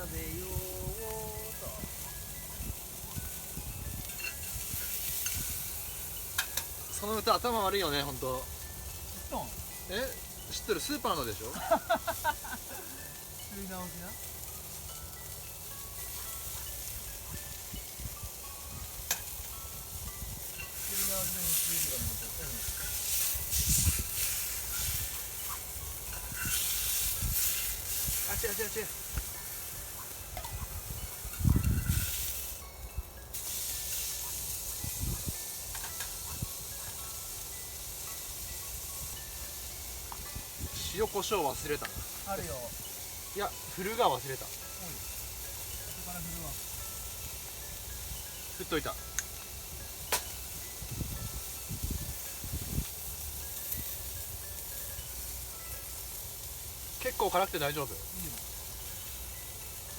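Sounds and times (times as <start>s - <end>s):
meat sizzling: 0.0s - 59.9s.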